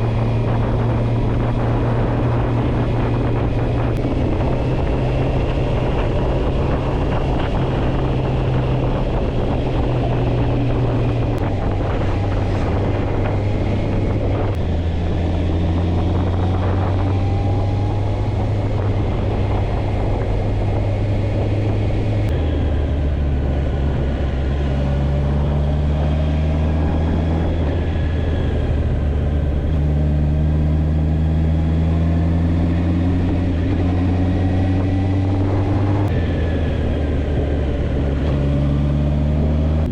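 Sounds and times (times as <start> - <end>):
motorcycle engine running: 0.0 - 39.9
rushing noise: 0.0 - 39.9.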